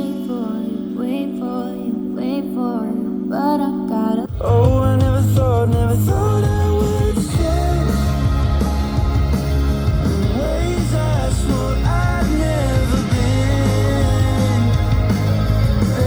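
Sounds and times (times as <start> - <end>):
song with sung vocal and bass: 0.0 - 16.0.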